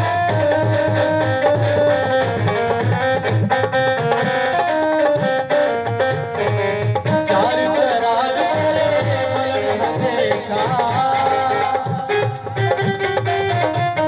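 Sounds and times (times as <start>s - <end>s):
hand drum percussion: 0.0s - 14.0s
pitched melody: 0.0s - 14.0s.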